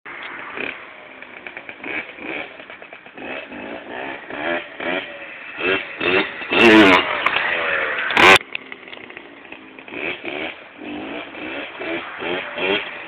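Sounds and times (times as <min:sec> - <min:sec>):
dirt bike engine revving: 0:00.1 - 0:13.0.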